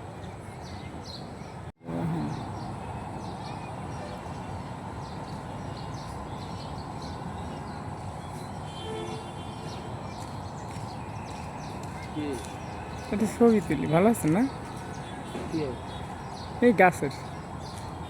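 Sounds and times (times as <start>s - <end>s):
outdoor background noise: 0.0s - 18.0s
small birds chirping: 0.2s - 18.0s.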